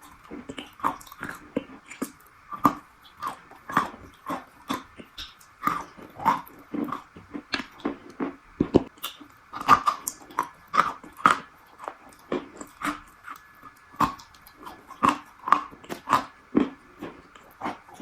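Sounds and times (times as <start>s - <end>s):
crunchy chewing: 0.0s - 18.0s.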